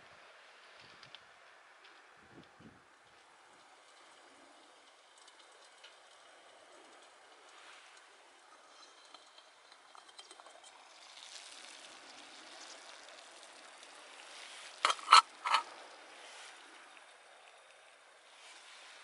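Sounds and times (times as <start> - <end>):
small wood fire crackling: 0.0 - 19.0.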